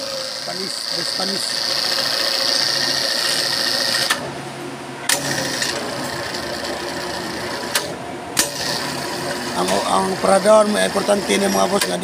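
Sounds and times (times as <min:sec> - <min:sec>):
electric hoist motor whine: 0:00.0 - 0:12.0.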